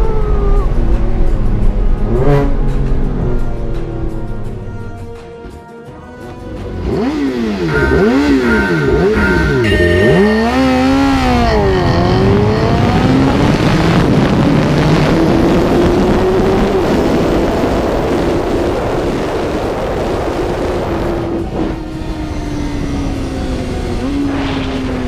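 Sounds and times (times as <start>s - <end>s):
motorcycle engine revving: 0.1s - 5.2s, 6.4s - 25.0s.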